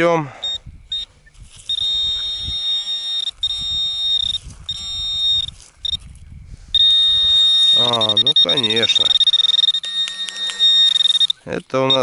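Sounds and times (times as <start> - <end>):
metal detector beeps: 0.4 - 6.1, 6.7 - 12.0.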